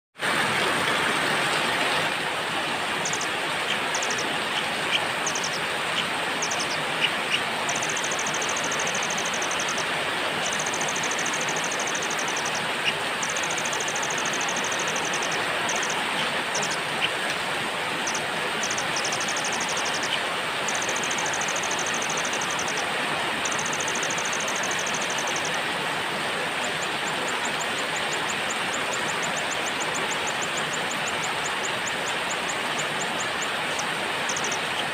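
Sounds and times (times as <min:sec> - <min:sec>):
heavy rain: 0:00.2 - 0:34.9
songbirds trilling: 0:02.6 - 0:25.6, 0:26.6 - 0:34.9.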